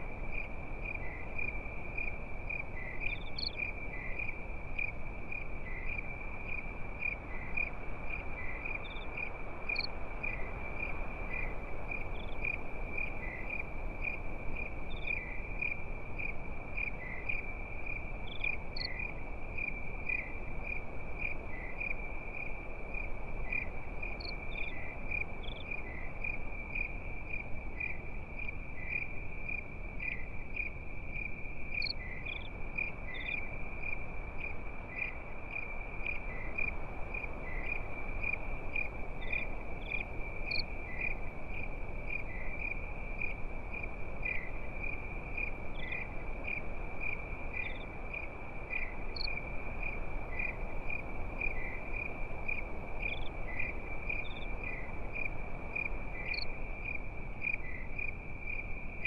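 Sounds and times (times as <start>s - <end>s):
crickets chirping: 0.0s - 59.0s
higher insect chirps: 0.3s - 59.0s.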